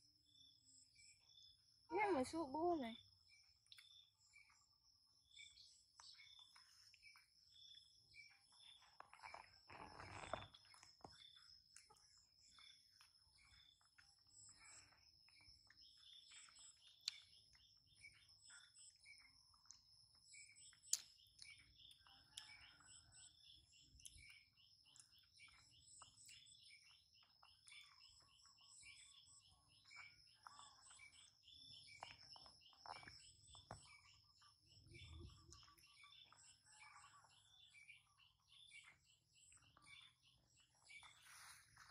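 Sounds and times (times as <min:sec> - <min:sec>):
birds chirping: 0:05.3 - 0:41.9.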